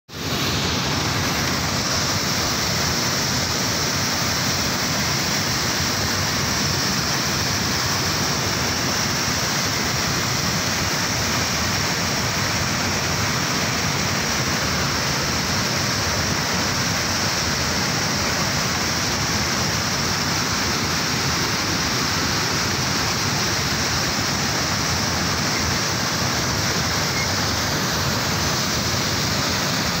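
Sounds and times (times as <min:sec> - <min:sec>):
loud rush of churning water: 0:00.1 - 0:30.0.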